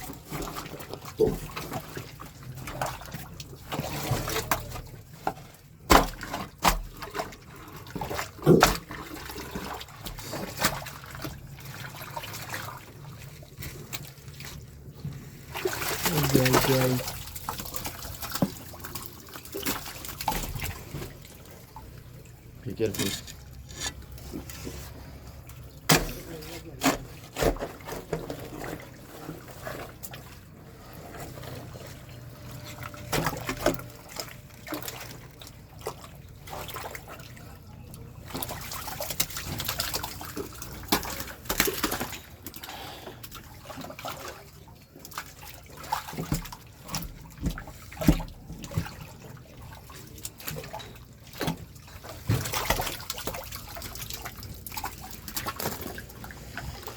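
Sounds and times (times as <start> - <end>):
water trickling in a drain: 0.0 - 56.9.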